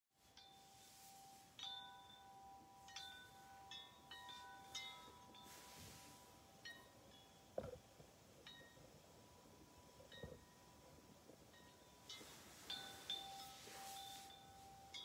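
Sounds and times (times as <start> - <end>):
wind chime ringing: 0.3 - 7.6, 8.4 - 15.0.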